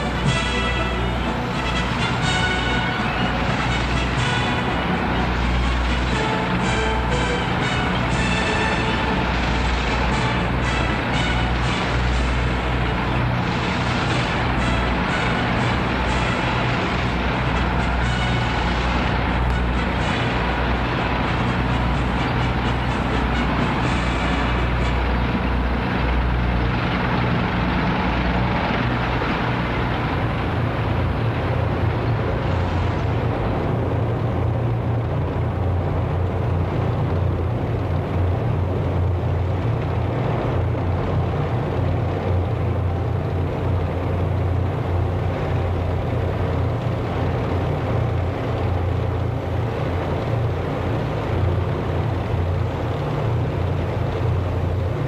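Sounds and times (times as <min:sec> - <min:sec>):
heavy vehicle engines rumbling: 0:00.0 - 0:55.0.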